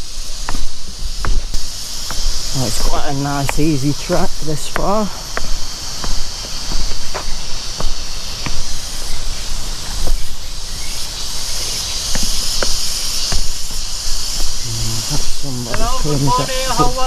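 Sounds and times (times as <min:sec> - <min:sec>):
footsteps crunching on track: 0:00.0 - 0:17.0
insects chirring: 0:00.0 - 0:17.0.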